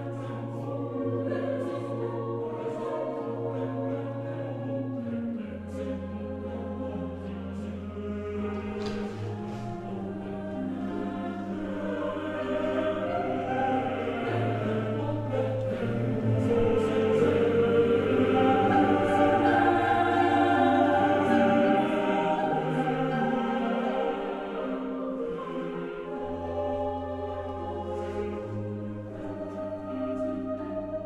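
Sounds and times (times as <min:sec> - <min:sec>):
choir singing long chords: 0:00.0 - 0:31.0.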